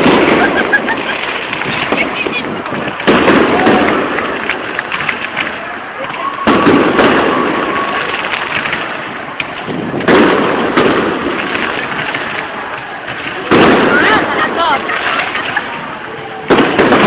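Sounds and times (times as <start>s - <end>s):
fireworks bursts: 0.0s - 17.0s
fireworks crackling: 0.0s - 17.0s.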